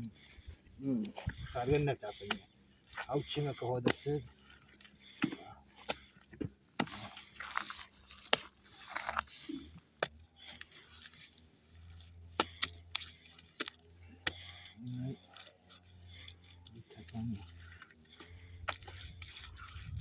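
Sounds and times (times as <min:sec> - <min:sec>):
crunching and scraping: 0:00.0 - 0:20.0.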